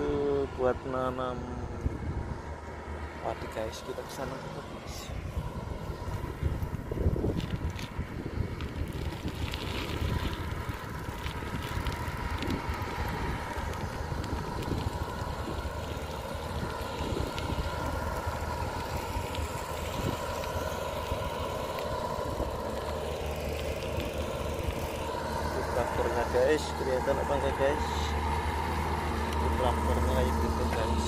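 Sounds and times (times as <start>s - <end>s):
tractor engine drone: 0.0s - 31.0s
bicycle clicks and rattles: 6.0s - 31.0s.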